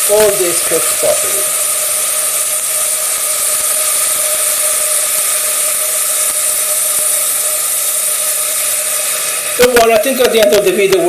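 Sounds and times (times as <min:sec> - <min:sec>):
mechanical whir: 0:00.0 - 0:11.0.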